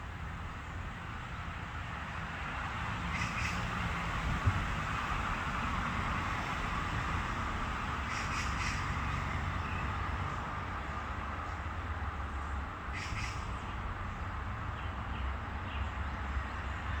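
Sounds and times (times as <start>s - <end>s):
low rumble of wind or traffic: 0.0s - 17.0s.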